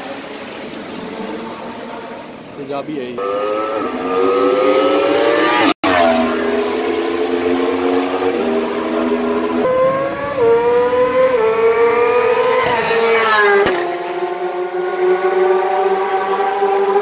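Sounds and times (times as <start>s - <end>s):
motorcycle engine revving: 3.2s - 17.0s.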